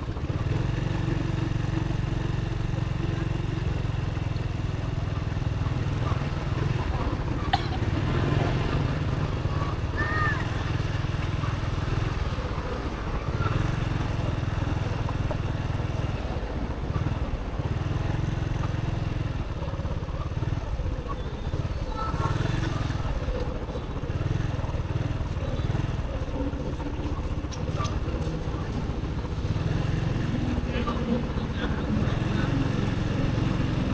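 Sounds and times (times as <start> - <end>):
motorbike engine and road noise: 0.0 - 33.9.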